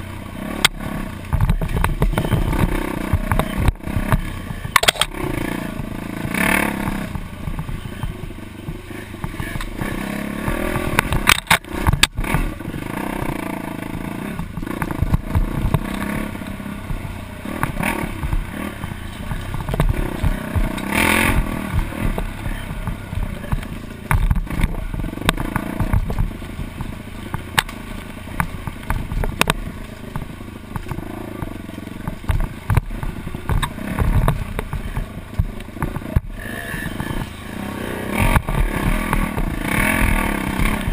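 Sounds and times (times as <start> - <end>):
bike clattering over bumps: 0.0 - 40.9
dirt bike engine revving: 0.0 - 40.9.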